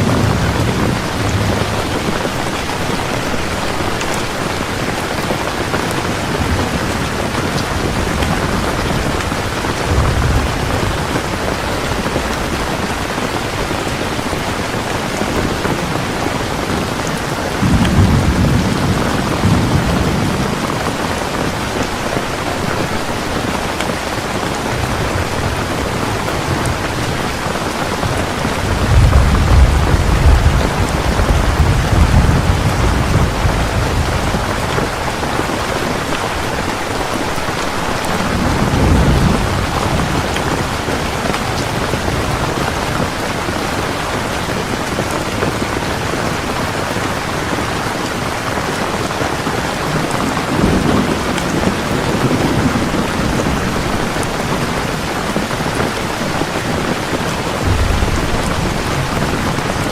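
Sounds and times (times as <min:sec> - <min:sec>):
low thunder rumbling: 0:00.0 - 0:46.8, 0:49.8 - 0:59.9
heavy rain falling: 0:00.0 - 0:59.9.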